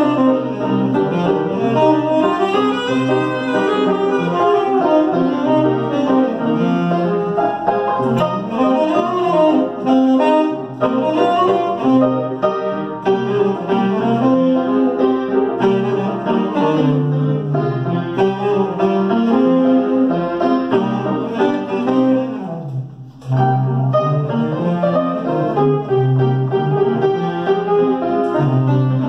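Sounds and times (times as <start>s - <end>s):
saxophone playing: 0.0s - 29.0s
upright piano playing: 0.0s - 29.0s.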